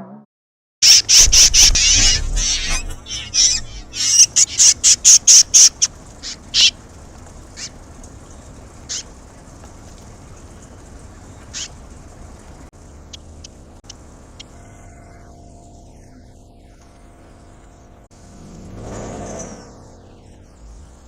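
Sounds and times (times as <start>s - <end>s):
swallows chirping: 0.8s - 17.9s.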